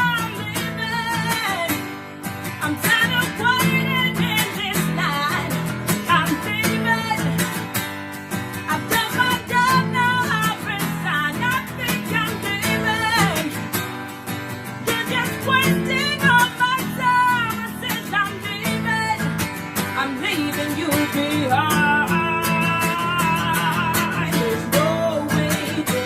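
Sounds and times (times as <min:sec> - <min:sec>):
person singing: 0:00.0 - 0:01.9, 0:02.5 - 0:07.7, 0:08.6 - 0:13.7, 0:14.8 - 0:26.0
guitar strumming: 0:00.0 - 0:26.0.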